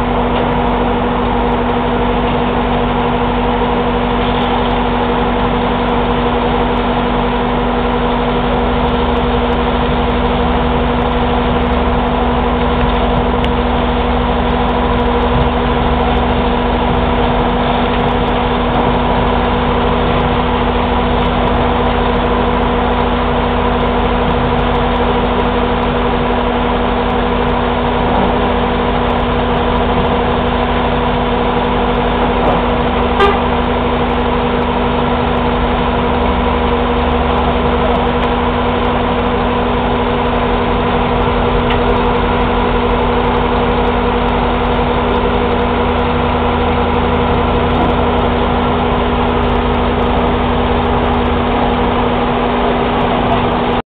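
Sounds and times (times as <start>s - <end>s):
concrete mixer truck engine drone: 0.0s - 53.8s.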